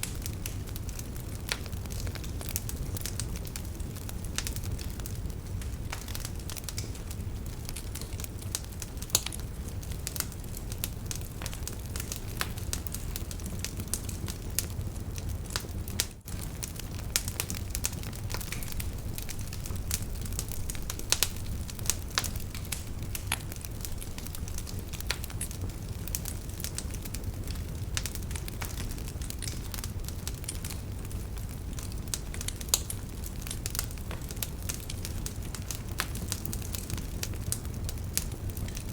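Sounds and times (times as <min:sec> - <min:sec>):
fire crackling in fireplace: 0:00.0 - 0:38.9.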